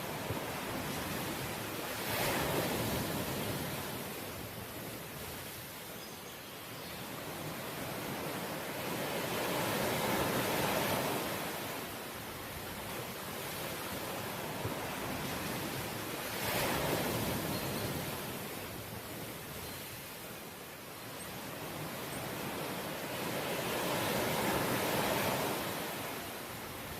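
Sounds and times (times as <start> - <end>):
sea waves washing onto shore: 0.0 - 5.9, 7.1 - 26.9.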